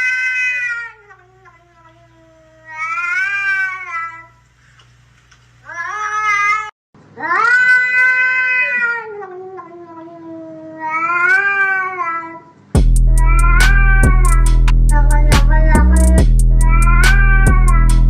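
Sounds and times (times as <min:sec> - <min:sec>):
cat meowing: 0:00.0 - 0:04.3, 0:05.6 - 0:12.4, 0:13.2 - 0:18.0.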